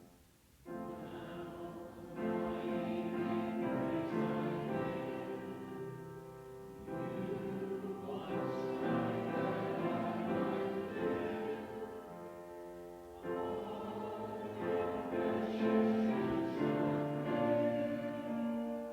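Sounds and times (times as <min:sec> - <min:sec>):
congregation singing a hymn: 0:00.0 - 0:18.9.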